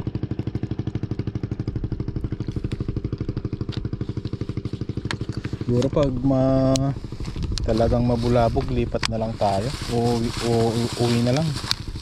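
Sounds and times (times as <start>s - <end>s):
small boat engine putt-putt: 0.0s - 12.0s.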